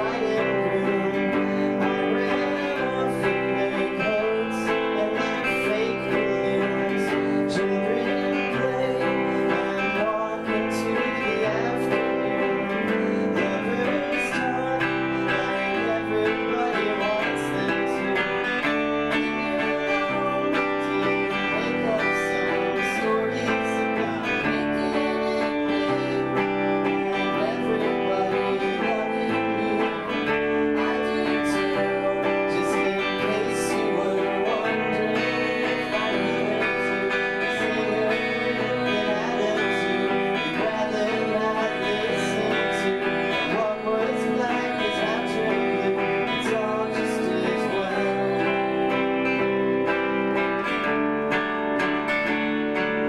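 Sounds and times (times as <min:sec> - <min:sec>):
guitars strumming chords: 0:00.0 - 0:53.0.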